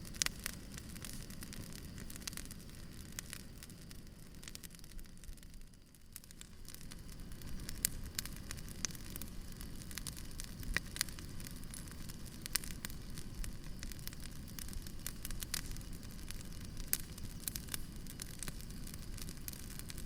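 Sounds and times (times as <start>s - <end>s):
logs crackling and popping: 0.0s - 20.0s
wood fire rumble: 0.0s - 20.0s.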